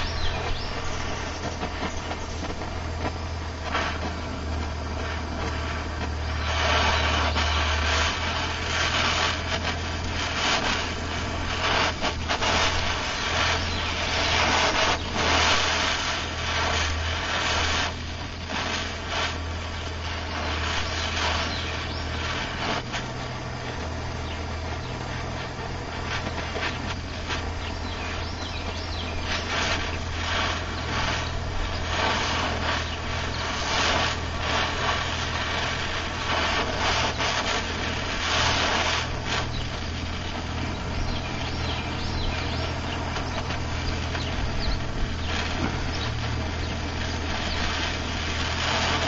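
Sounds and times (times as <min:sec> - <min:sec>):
gas torch flame hissing: 0:00.0 - 0:49.0
low steady hum: 0:00.0 - 0:49.0.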